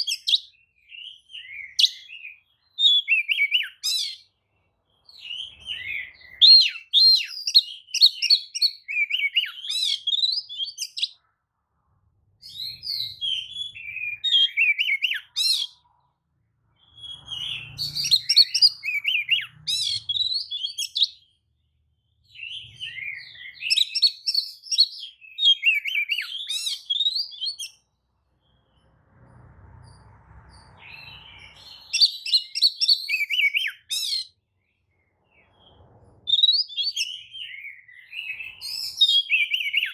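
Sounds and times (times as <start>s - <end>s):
bird singing chirps and whistles: 0.0s - 4.3s, 5.0s - 11.2s, 12.4s - 15.8s, 16.8s - 21.4s, 22.2s - 27.9s, 30.8s - 34.4s, 35.3s - 39.9s.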